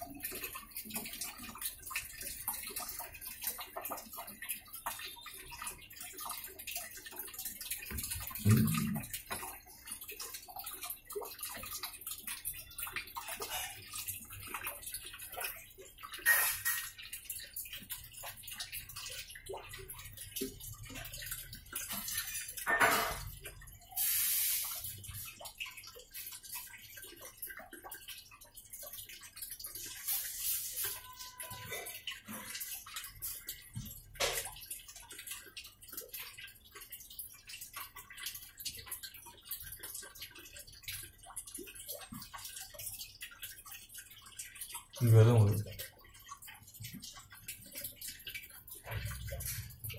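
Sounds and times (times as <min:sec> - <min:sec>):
water sloshing in washing machine: 0:00.0 - 0:49.9.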